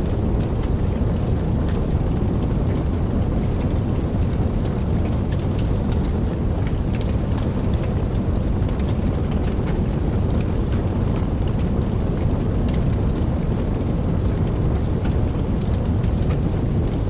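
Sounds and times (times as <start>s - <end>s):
campfire crackling and rumbling: 0.0s - 17.0s.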